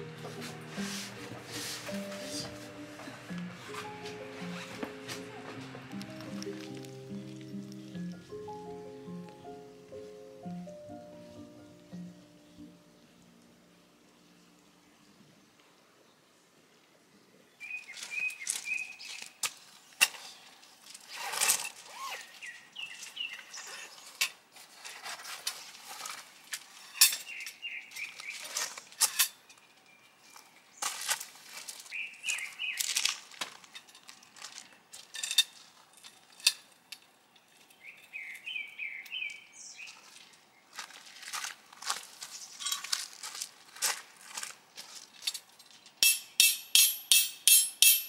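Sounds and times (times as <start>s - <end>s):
songbirds chirping: 0.0s - 21.0s, 21.9s - 25.0s, 26.0s - 35.0s, 36.8s - 43.5s.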